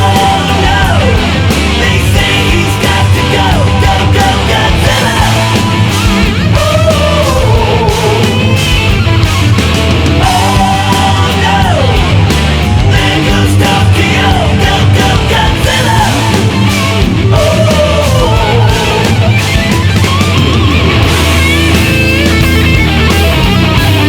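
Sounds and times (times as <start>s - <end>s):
distorted electric guitar: 0.0s - 24.0s
heavy rock music: 0.0s - 24.0s
steady drum beat: 0.0s - 24.0s.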